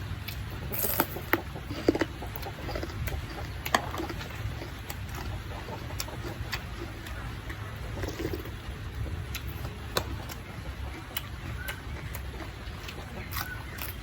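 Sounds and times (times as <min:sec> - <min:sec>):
rain rumbling: 0:00.0 - 0:13.3.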